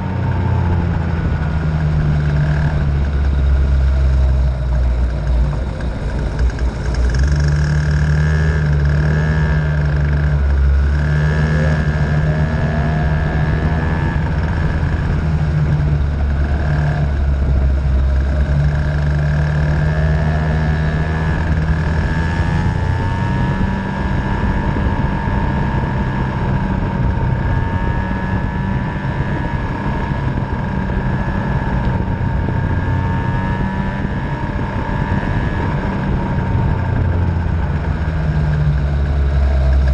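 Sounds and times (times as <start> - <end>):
two-stroke racing engine running: 0.0 - 39.9.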